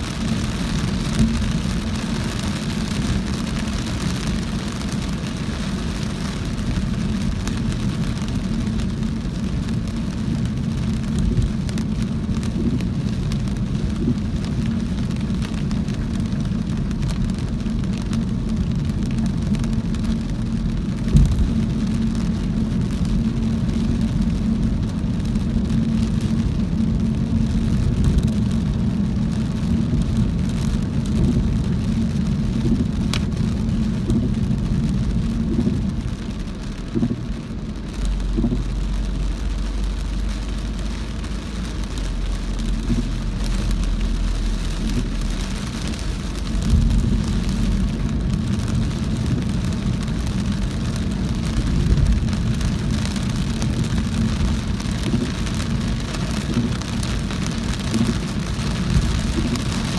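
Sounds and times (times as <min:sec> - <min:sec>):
car engine and road noise: 0:00.0 - 0:59.9
deep low rumble: 0:00.0 - 0:59.9
heavy rain hitting car: 0:00.0 - 0:59.9.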